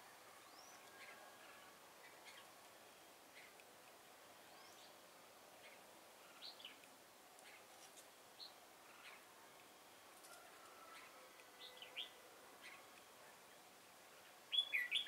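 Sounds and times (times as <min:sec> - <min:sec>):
faint bird chirping calls: 0:00.0 - 0:15.0.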